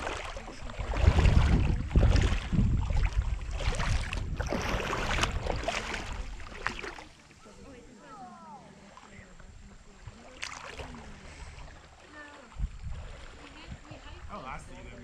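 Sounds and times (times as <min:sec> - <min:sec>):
wind buffeting microphone: 0:00.0 - 0:07.0, 0:09.2 - 0:15.0.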